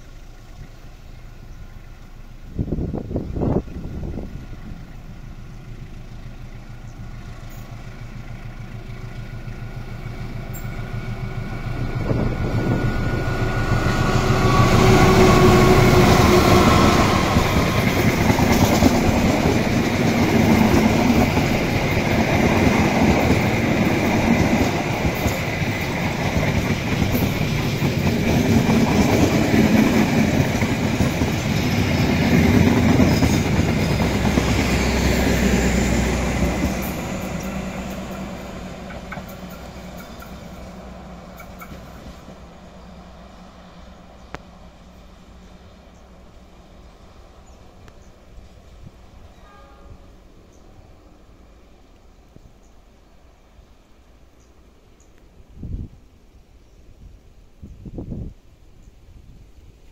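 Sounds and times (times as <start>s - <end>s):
train wheels rumbling and clacking: 0.0s - 54.8s
diesel locomotive engine: 0.0s - 59.9s.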